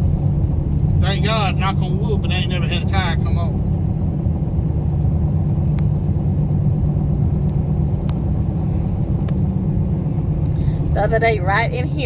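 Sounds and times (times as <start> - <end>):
vehicle road rumble: 0.0 - 12.0.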